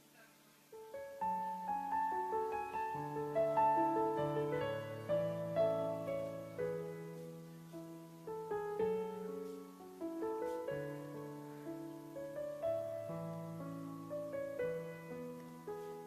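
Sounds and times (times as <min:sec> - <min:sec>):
slow solo piano melody: 0:00.1 - 0:16.0.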